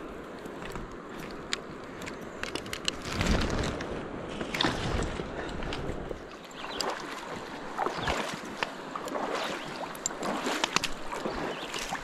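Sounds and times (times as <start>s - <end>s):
stream water splashing: 0.0s - 12.0s.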